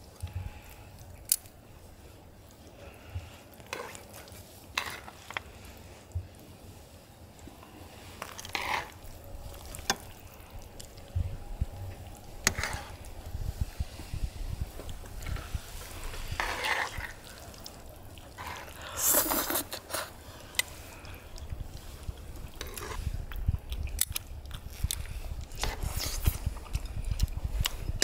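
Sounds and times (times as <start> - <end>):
wet squishing of noodles: 0.0 - 28.0.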